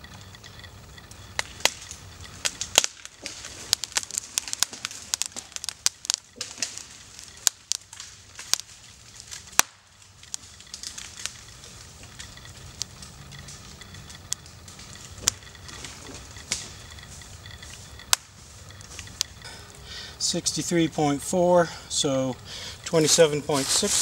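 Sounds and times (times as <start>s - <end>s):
tree wood cracking and snapping: 0.0s - 21.1s.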